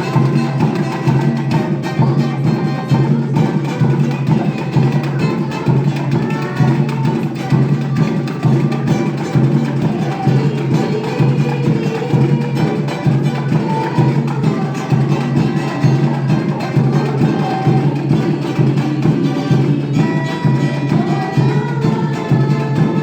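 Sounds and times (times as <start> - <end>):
band playing instrumental: 0.0 - 23.0
pulsing percussion beat: 0.0 - 23.0.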